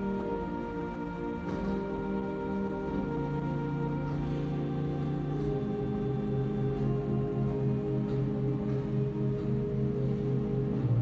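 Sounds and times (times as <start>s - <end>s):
church organ chords: 0.0s - 11.0s.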